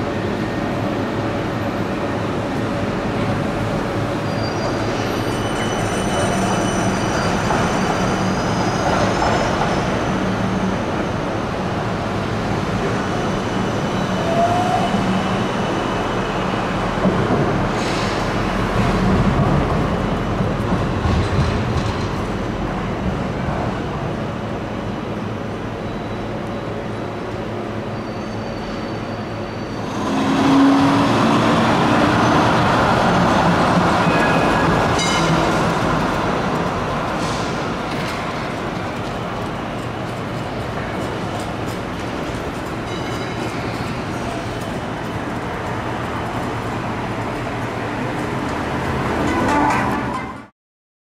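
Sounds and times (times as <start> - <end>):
city street traffic noise: 0.0 - 50.5
steel wheels rumbling on rail: 0.0 - 50.5
tram running with low hum: 0.0 - 50.5.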